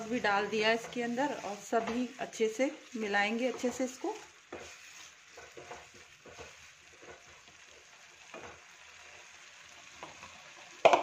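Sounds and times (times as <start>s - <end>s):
wooden spatula scraping a pan: 0.0s - 9.2s
curry sizzling: 0.0s - 11.0s.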